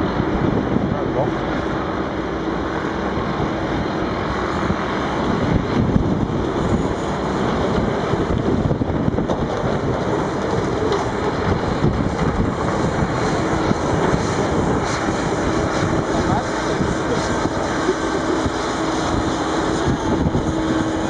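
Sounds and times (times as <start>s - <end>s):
heavy diesel machinery drone: 0.0s - 21.0s.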